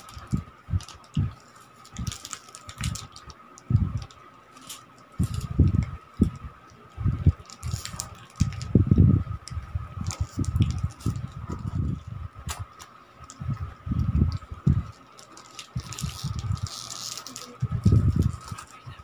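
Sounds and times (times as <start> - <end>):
foil wrappers crinkling: 0.0 - 6.4, 7.3 - 8.8, 9.4 - 19.0
faint high hum: 0.0 - 19.0.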